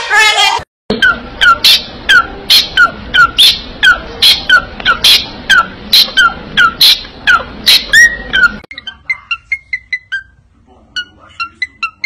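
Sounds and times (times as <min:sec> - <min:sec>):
parrots shrill calls: 0:01.0 - 0:12.0.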